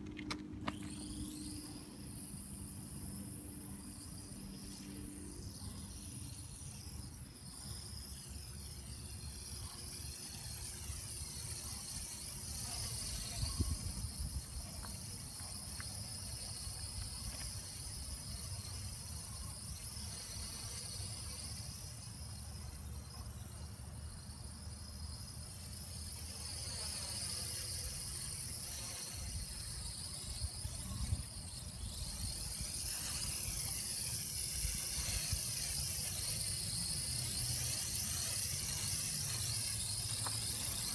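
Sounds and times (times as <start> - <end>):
quadcopter propellers buzzing: 0.0 - 40.9.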